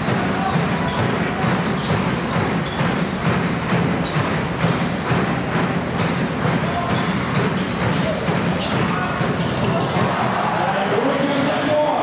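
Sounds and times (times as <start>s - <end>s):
basketball bouncing: 0.0s - 10.6s
crowd noise in large hall: 0.0s - 12.0s.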